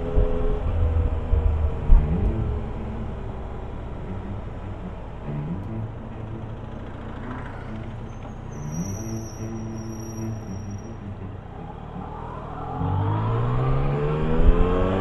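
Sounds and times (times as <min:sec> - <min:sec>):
high whine: 0:00.0 - 0:15.0
motorcycle engine accelerating: 0:00.0 - 0:15.0.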